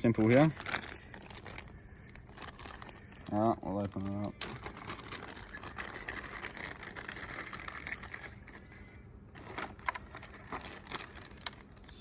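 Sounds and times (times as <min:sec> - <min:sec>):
packaging clicks and rustles: 0:00.0 - 0:12.0.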